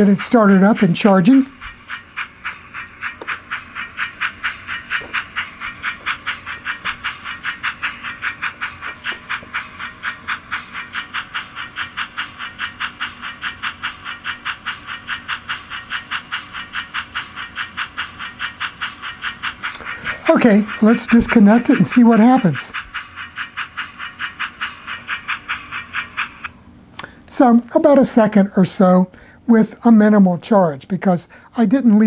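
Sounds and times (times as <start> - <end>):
steam locomotive chuffing: 0.0 - 26.6.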